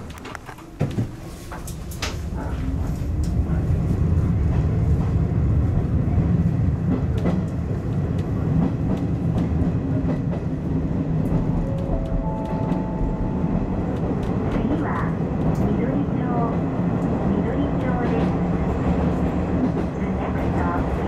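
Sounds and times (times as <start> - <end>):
rail joint clicks: 0.0 - 3.7, 6.8 - 21.0
train wheels rumbling: 0.0 - 21.0.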